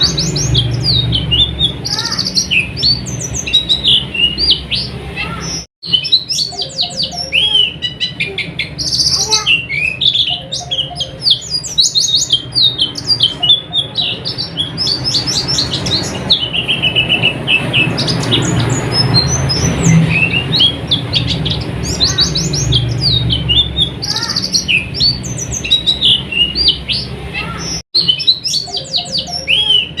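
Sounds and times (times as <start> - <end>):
birds twittering: 0.0 - 30.0.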